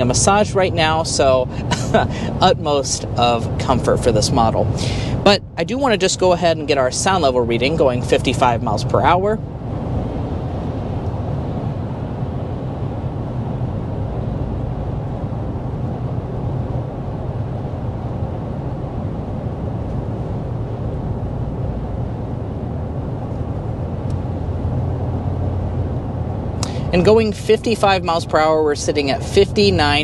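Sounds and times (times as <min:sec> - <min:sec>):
low rumble of car cabin noise: 0:00.0 - 0:30.0.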